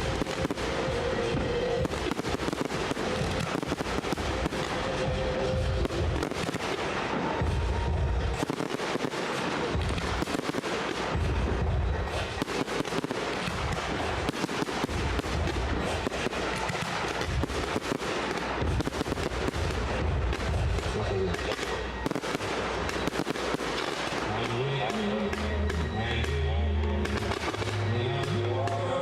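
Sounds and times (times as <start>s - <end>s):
deep firework booms: 0.0s - 24.2s
fireworks crackling: 0.0s - 29.0s.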